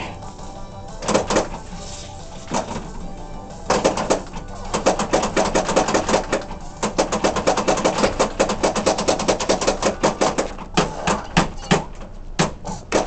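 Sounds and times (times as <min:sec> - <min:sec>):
pinball machine clicking rapidly: 0:00.9 - 0:01.7, 0:02.4 - 0:13.0.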